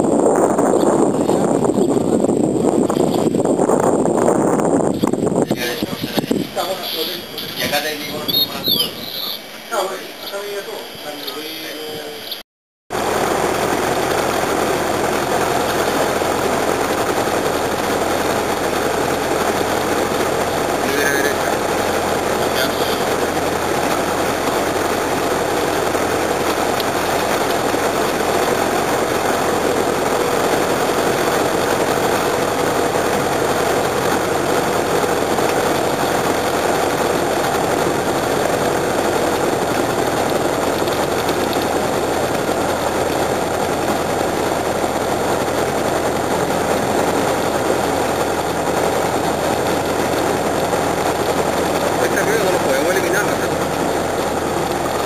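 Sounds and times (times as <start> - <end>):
light aircraft piston engine: 0.0 - 55.0.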